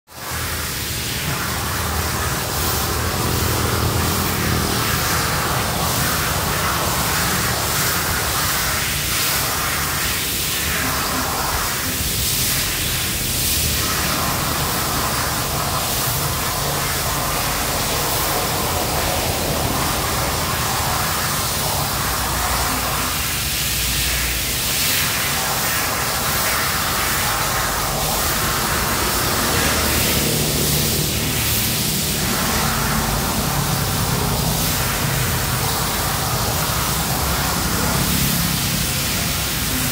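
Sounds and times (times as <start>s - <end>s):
cutting torch hissing: 0.1s - 39.9s.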